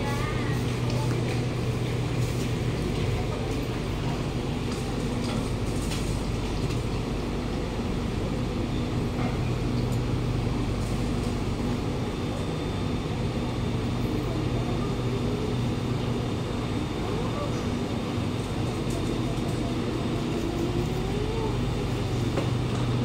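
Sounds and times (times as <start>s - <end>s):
train low hum: 0.0s - 23.0s.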